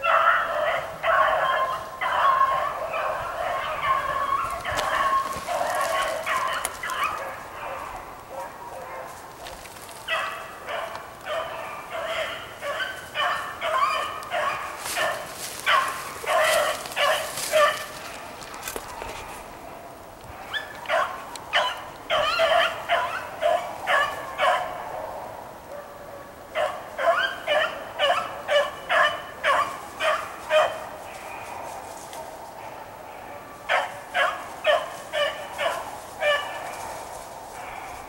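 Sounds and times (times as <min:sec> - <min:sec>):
dogs barking: 0:00.0 - 0:38.0.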